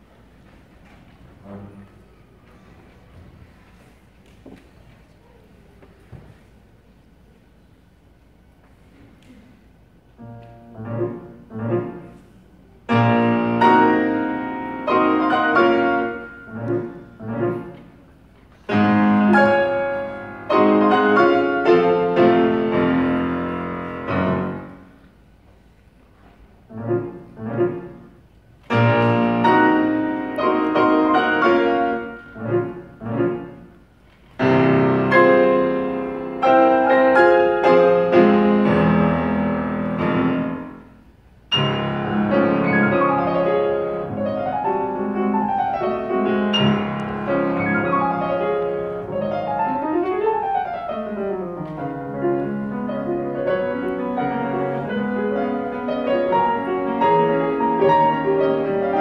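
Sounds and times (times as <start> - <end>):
classical piano playing: 9.9 - 59.0.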